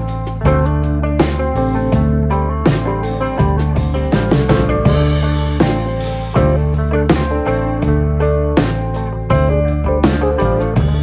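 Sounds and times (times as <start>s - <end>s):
plucked notes over bass line: 0.0s - 11.0s.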